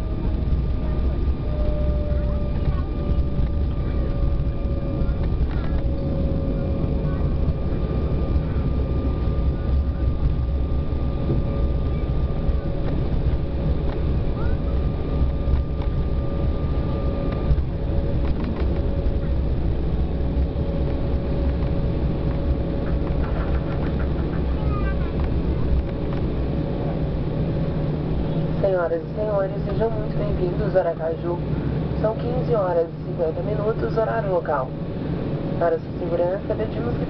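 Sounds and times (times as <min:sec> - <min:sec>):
jet engines and wheels rumbling: 0:00.0 - 0:37.0.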